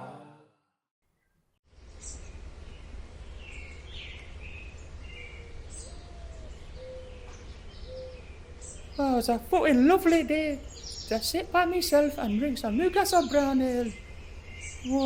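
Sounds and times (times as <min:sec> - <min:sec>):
birds chirping: 0:01.2 - 0:15.0.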